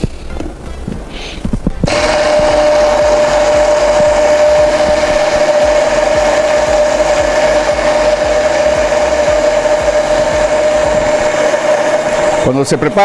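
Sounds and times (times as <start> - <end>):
immersion blender motor whine: 1.8 - 13.0.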